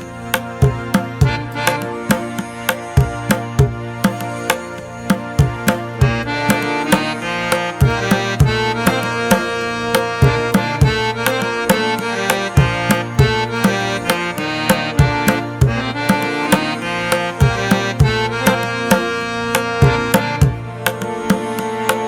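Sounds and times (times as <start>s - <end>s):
tabla drumming: 0.0s - 22.0s.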